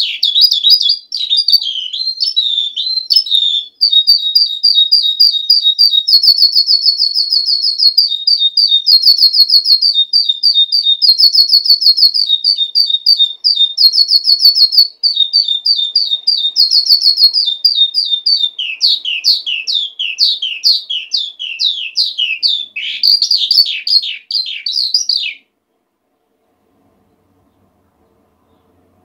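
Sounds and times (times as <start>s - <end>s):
skylark singing: 0.0s - 25.5s.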